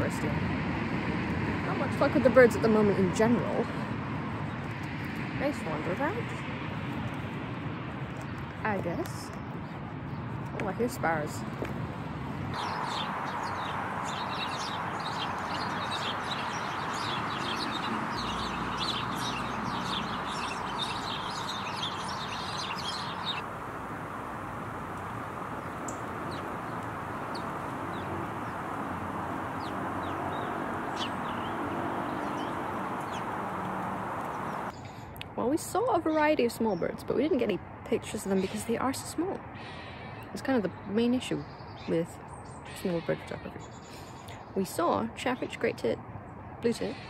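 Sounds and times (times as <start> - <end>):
steady road noise: 0.0 - 47.0
sparrows chirping: 1.6 - 6.5, 7.8 - 11.6, 12.5 - 47.0.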